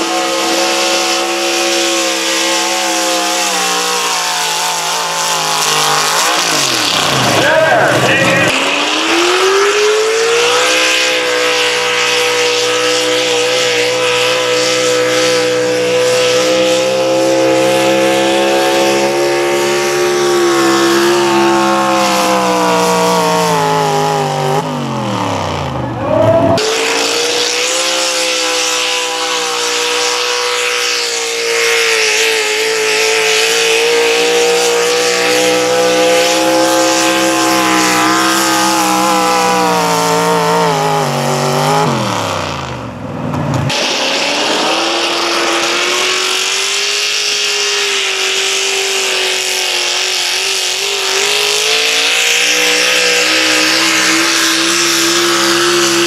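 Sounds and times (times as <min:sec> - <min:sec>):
truck engine revving high: 0:00.0 - 0:56.0.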